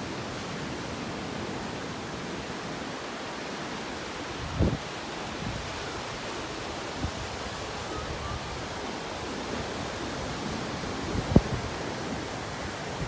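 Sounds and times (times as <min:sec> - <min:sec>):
surf breaking on a beach: 0:00.0 - 0:13.0
wind: 0:00.0 - 0:13.0.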